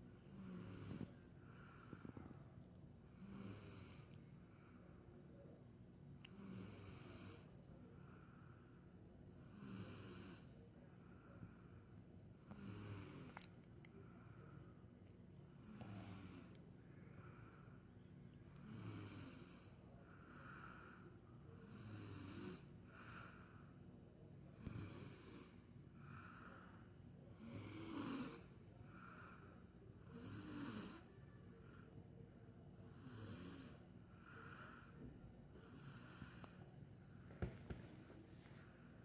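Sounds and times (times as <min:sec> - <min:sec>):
person snoring softly: 0:00.0 - 0:05.5, 0:06.2 - 0:08.7, 0:09.4 - 0:11.8, 0:12.4 - 0:14.8, 0:15.5 - 0:17.8, 0:18.5 - 0:23.8, 0:24.5 - 0:32.0, 0:32.8 - 0:38.9.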